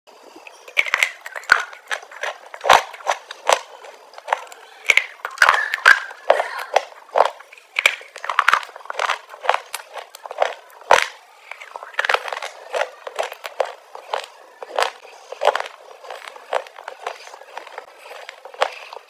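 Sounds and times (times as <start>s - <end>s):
crunching chewing: 0.2s - 19.0s.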